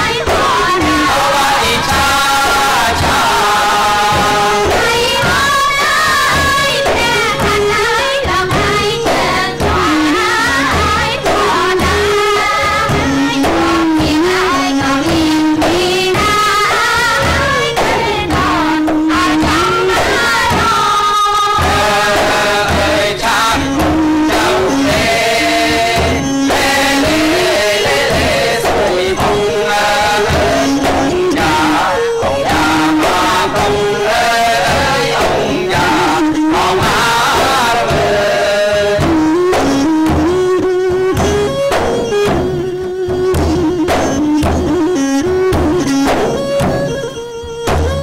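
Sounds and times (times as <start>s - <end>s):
person singing: 0.0s - 21.0s, 21.6s - 39.2s
frame drums beating: 0.0s - 48.0s.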